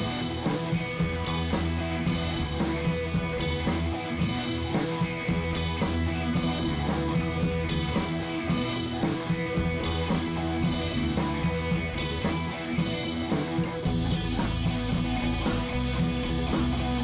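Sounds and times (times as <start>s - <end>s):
music with guitar and drums: 0.0s - 17.0s.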